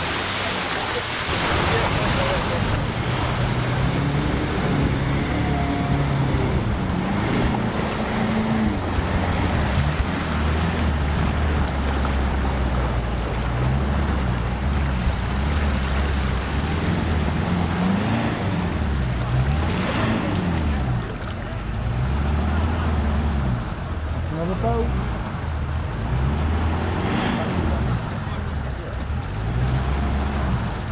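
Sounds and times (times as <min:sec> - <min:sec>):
vehicle engine revving: 0:00.0 - 0:30.9.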